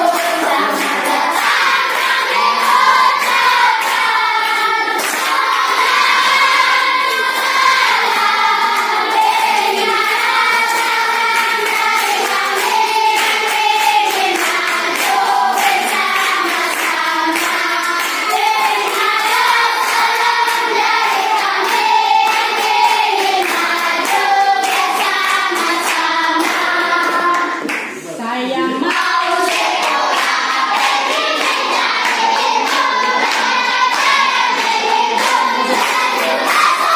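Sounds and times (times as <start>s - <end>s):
children singing: 0.0s - 27.7s, 28.3s - 36.9s
hands clapping: 0.0s - 28.1s, 28.8s - 36.9s.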